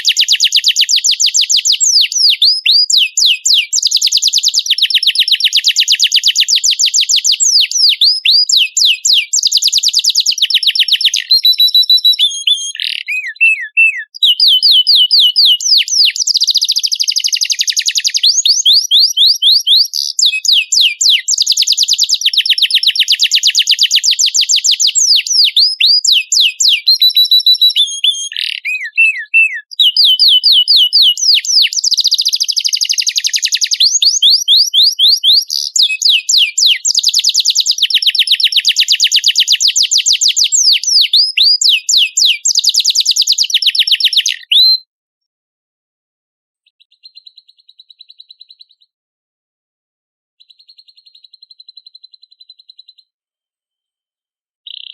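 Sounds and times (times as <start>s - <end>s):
songbird singing trills: 0.0s - 44.9s, 46.6s - 48.9s, 50.4s - 53.2s, 54.7s - 54.9s.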